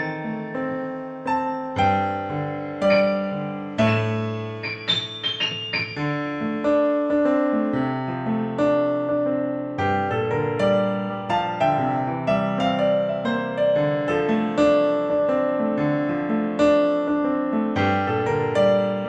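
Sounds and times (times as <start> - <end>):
piano playing: 0.0 - 19.0.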